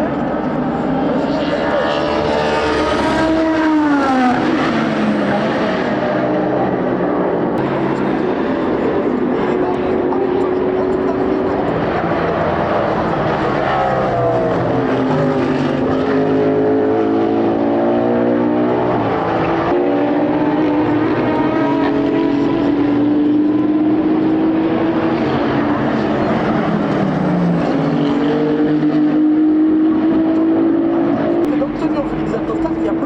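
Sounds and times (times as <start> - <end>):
race car engines at high revs: 0.0 - 33.0.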